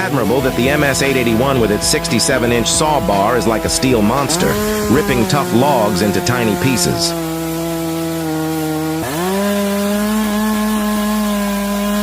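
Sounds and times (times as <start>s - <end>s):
chainsaw cutting through log: 0.0s - 12.0s.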